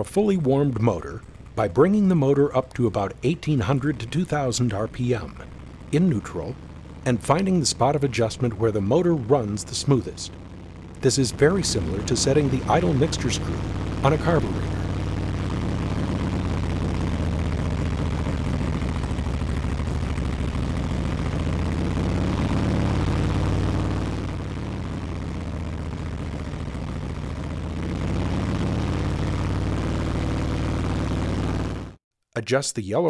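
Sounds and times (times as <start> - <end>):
motorcycle engine fast idle: 0.8 - 31.9.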